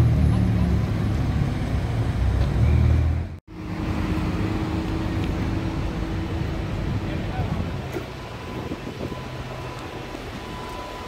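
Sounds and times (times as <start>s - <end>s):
bus passing with engine hum: 0.0s - 11.0s
street traffic: 0.0s - 11.0s.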